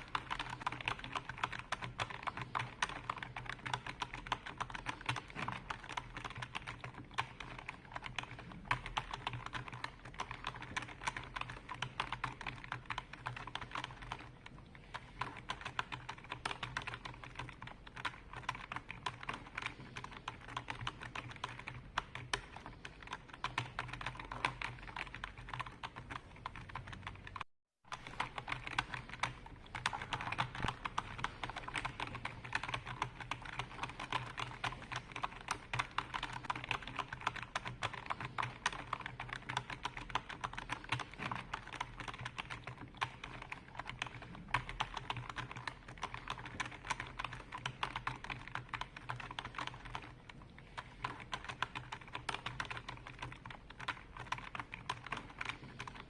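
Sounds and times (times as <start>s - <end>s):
computer keyboard typing: 0.0s - 56.0s.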